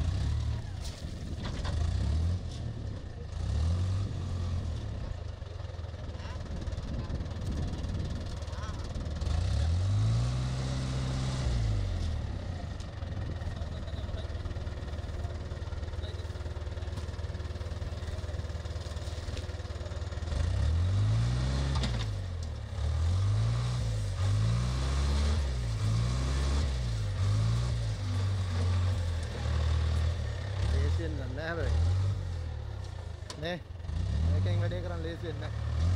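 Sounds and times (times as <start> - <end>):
wheel loader diesel engine revving: 0.0 - 35.9.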